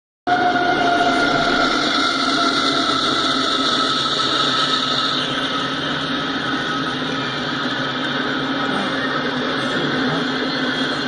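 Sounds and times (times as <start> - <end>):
high whine: 0.3 - 11.0
train wheels rushing on rails: 0.3 - 11.0.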